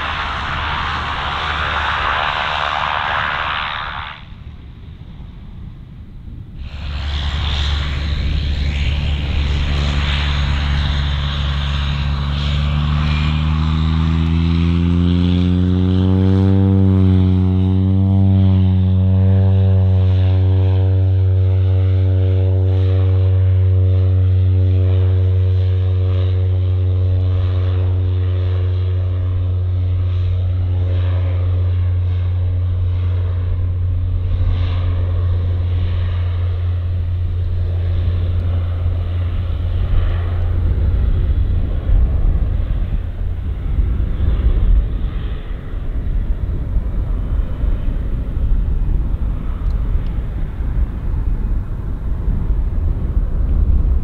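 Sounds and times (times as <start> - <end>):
gusty low rumble: 0.0 - 54.0
propeller engine drone: 0.0 - 54.0.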